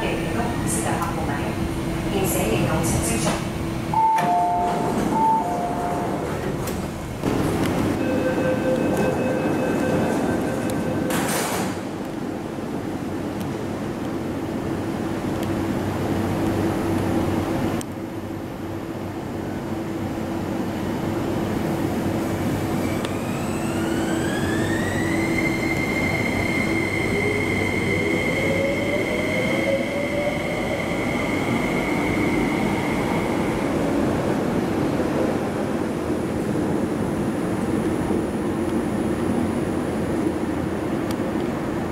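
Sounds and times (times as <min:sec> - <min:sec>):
train hum: 0:00.0 - 0:41.9
train running noise: 0:00.0 - 0:41.9.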